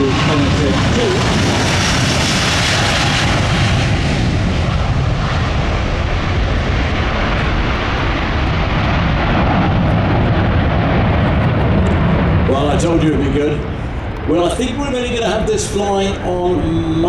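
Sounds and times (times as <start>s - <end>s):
loud jet engine noise: 0.0s - 17.0s.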